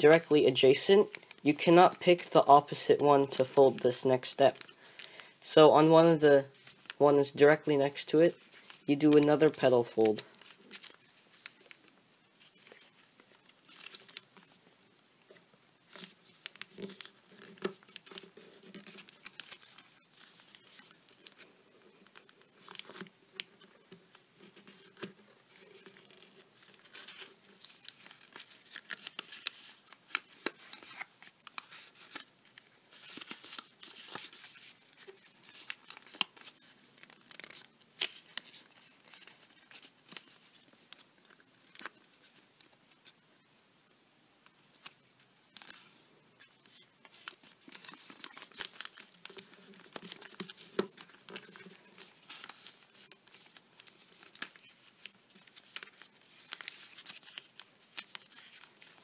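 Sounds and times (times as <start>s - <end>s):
paper crinkling and rustling: 0.0s - 43.2s, 44.6s - 59.0s.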